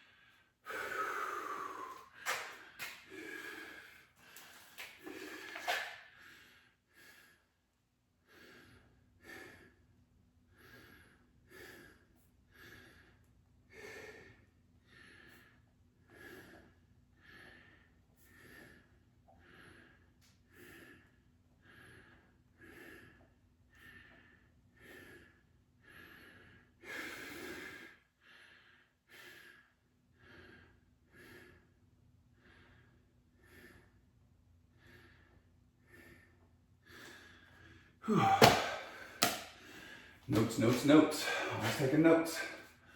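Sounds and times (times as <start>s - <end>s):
man breathing hard: 0.0s - 7.6s, 8.2s - 42.9s.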